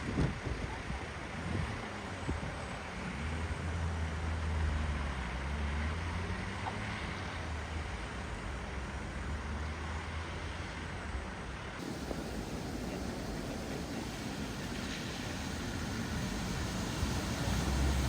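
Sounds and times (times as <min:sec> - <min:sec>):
road and wind noise: 0:00.0 - 0:18.0
vehicle engine hum: 0:01.4 - 0:18.0.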